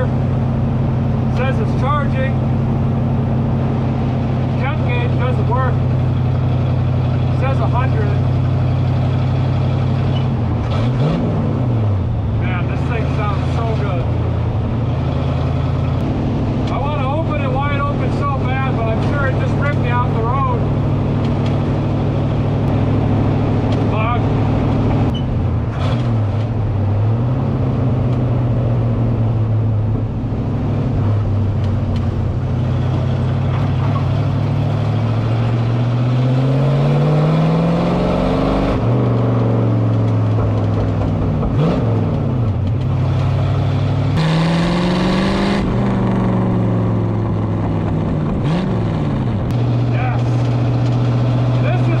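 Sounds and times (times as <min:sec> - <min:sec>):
race car engine revving: 0:00.0 - 0:52.0
wind and tyre noise: 0:00.0 - 0:52.0.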